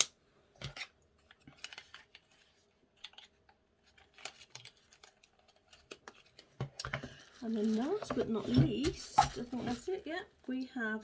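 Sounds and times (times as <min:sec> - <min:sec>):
packaging clicks and crinkling: 0:00.6 - 0:10.3.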